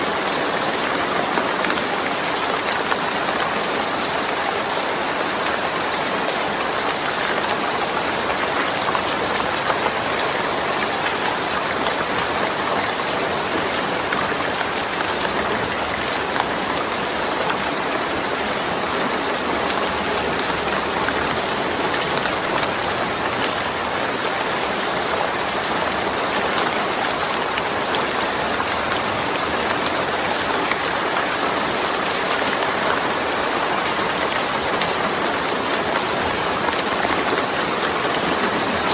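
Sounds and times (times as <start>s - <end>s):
rain on a metal roof: 0.0s - 38.9s.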